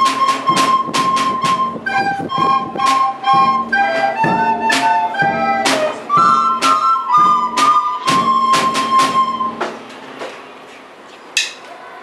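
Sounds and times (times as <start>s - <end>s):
soprano recorders playing melody: 0.0s - 9.8s
percussion strikes: 0.0s - 10.2s.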